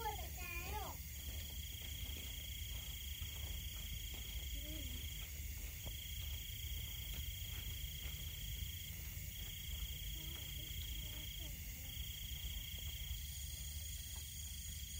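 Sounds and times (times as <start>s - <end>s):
crickets trilling: 0.0s - 14.9s.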